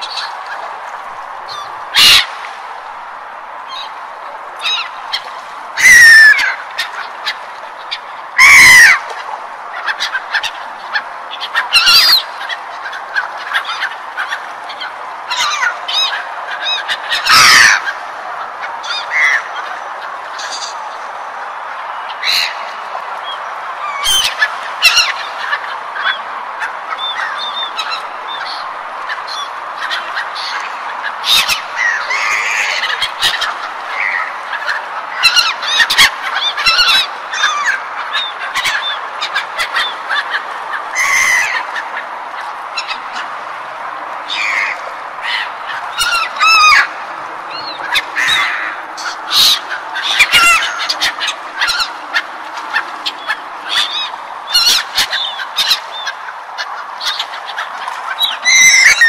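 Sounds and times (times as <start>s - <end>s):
gulls calling: 0.0s - 59.0s.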